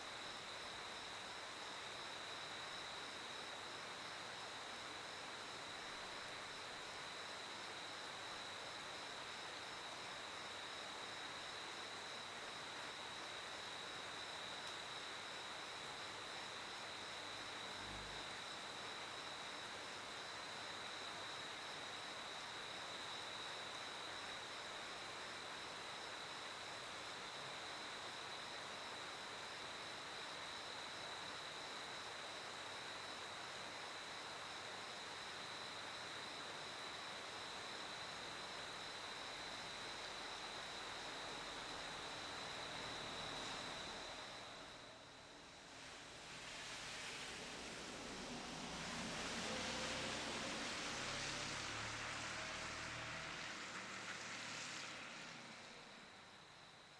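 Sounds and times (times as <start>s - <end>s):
crickets chirping: 0.0s - 56.9s
faint background hiss: 0.0s - 56.9s.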